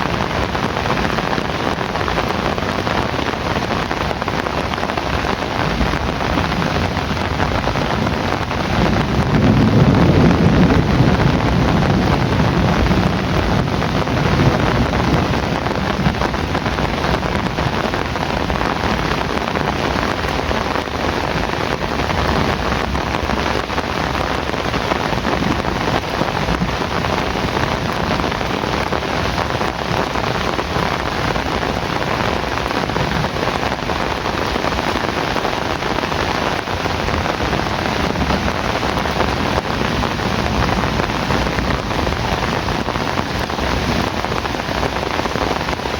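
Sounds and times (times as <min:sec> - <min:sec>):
heavy rain: 0:00.0 - 0:45.9
thunder rolling: 0:02.8 - 0:45.9.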